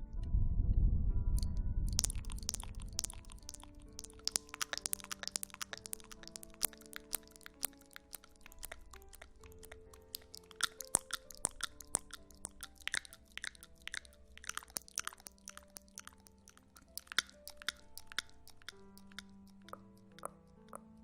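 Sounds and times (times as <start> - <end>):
soft ambient music: 0.0 - 21.0
crackling and crisp clicking: 1.4 - 21.0.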